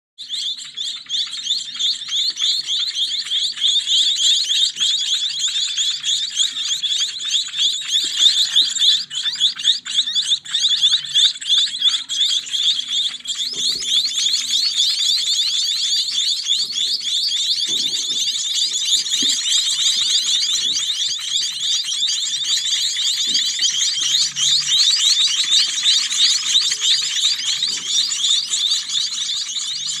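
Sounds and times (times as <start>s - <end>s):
nestlings chirping: 0.2s - 30.0s.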